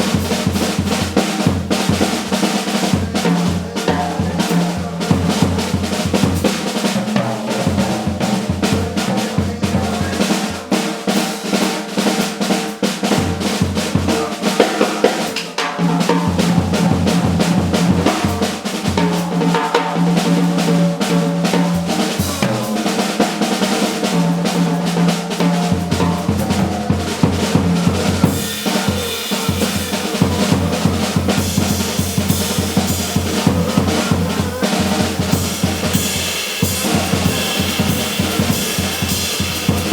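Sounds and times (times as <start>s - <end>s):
drum kit strokes: 0.0s - 39.9s
jazz combo playing: 0.0s - 39.9s.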